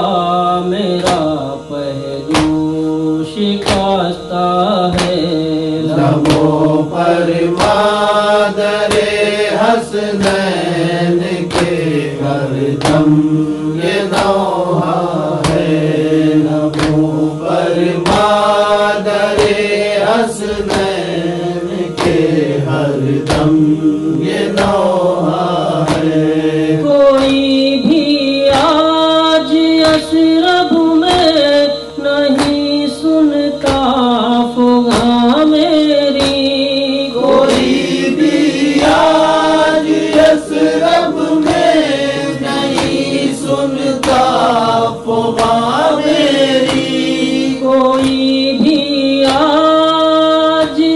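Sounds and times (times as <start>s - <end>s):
steady drone: 0.0s - 50.9s
voices chanting wordlessly: 0.0s - 50.9s
regular beat: 0.8s - 50.9s.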